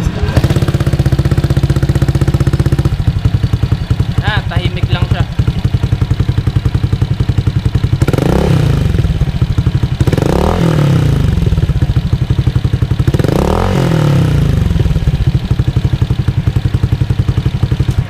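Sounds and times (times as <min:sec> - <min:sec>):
scooter engine idling and revving: 0:00.0 - 0:18.0.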